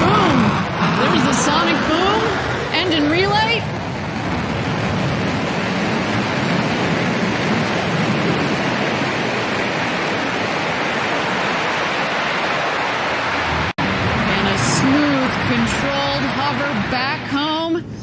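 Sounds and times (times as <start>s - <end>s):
rocket engine roar: 0.0s - 18.0s.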